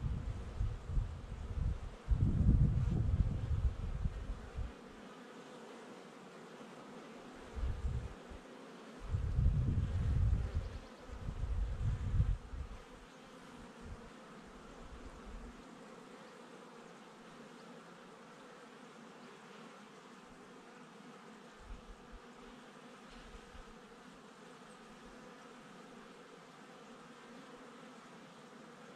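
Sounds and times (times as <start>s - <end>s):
honeybees buzzing: 0.0s - 28.9s.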